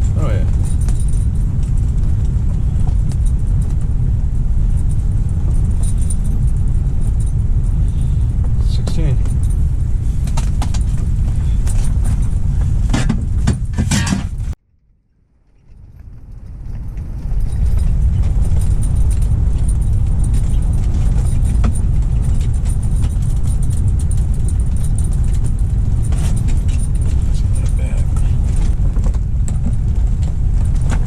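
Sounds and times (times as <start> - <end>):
strong wind buffeting microphone: 0.0 - 14.6, 15.7 - 31.0.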